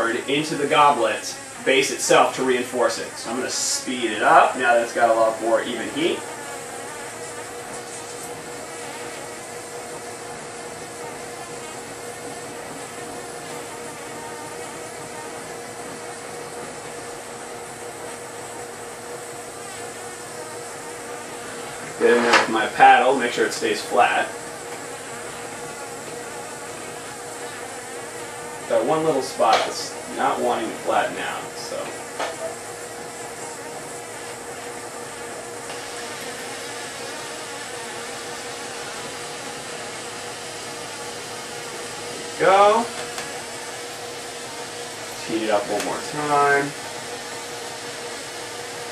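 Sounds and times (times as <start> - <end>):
steady hum: 0.0 - 48.9
torch flame hissing: 0.0 - 48.9.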